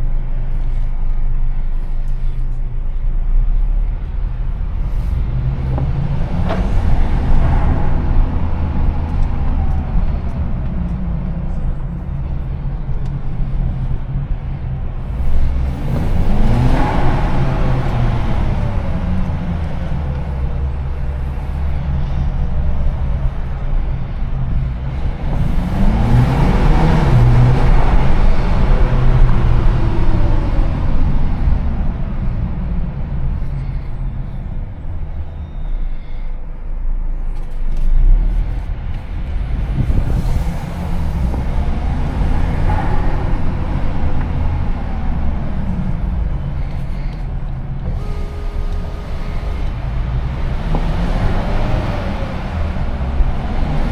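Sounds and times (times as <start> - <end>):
car engine accelerating hard: 3.5 - 35.2, 37.4 - 53.9.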